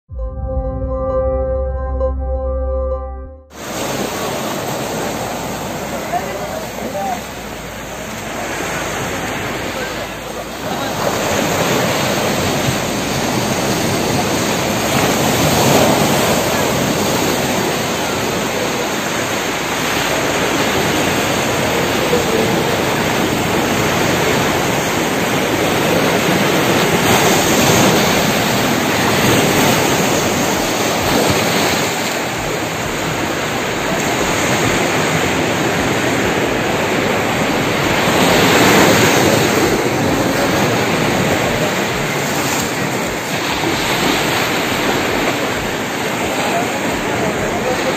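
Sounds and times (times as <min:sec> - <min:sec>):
surf washing up a beach: 0:03.5 - 0:47.9.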